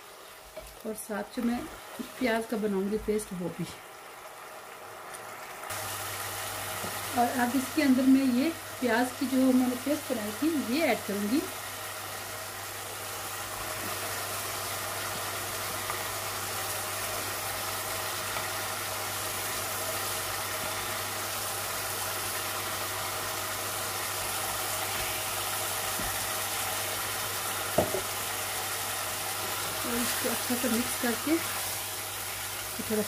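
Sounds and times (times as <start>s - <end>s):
chicken sizzling in oil: 0.0s - 33.0s
mechanical hum: 0.0s - 33.0s.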